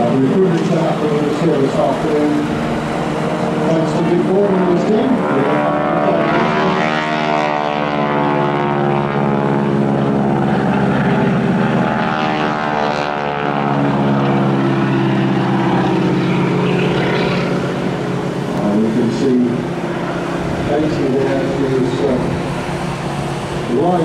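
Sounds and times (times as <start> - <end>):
biplane engines droning: 0.0 - 24.0.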